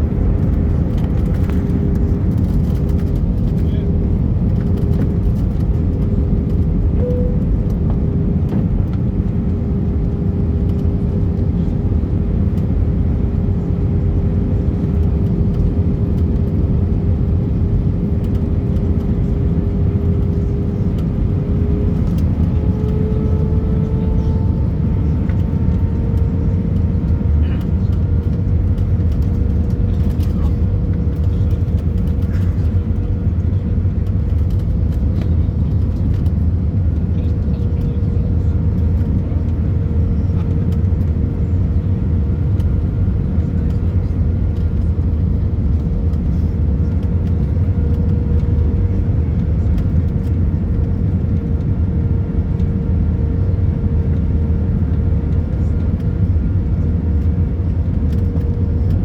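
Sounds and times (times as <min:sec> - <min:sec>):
engine and airflow rumble: 0:00.0 - 0:59.0.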